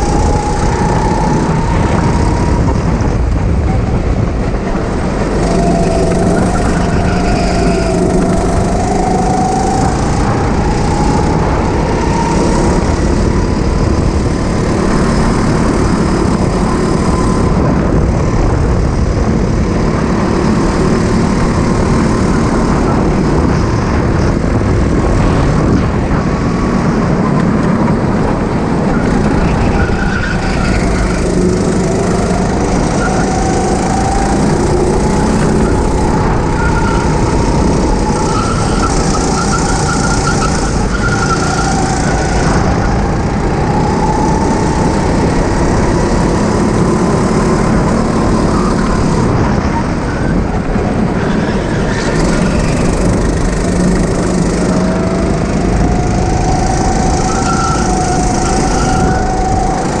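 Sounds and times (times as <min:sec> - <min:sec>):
go-kart engine revving: 0:00.0 - 1:00.0
steady rushing noise: 0:00.0 - 1:00.0.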